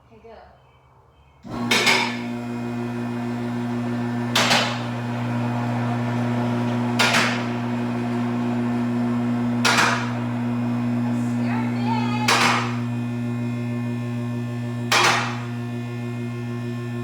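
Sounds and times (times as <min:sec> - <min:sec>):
vehicle lift motor humming: 0:01.4 - 0:17.0.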